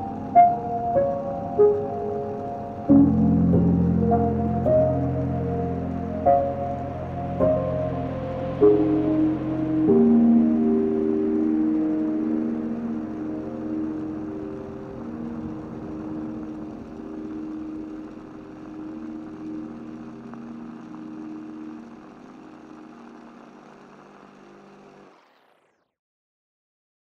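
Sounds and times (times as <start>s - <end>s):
soft piano chords: 0.0s - 23.7s
hiss and rumble: 0.0s - 25.5s.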